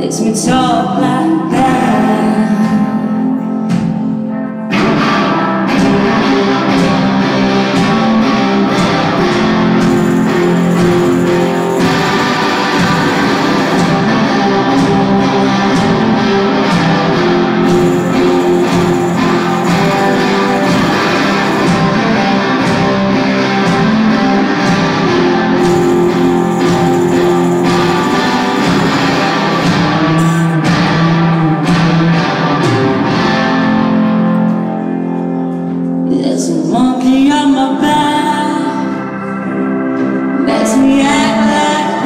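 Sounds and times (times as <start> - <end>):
electric guitar: 0.0 - 42.0
live rock band playing: 1.6 - 36.1.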